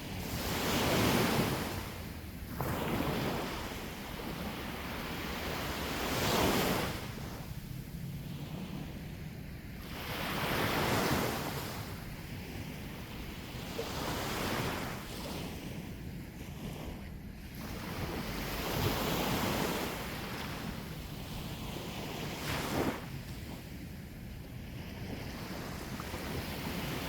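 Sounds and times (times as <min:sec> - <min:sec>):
sea waves breaking on shore: 0:00.0 - 0:27.0
wind rumbling on microphone: 0:00.0 - 0:27.0.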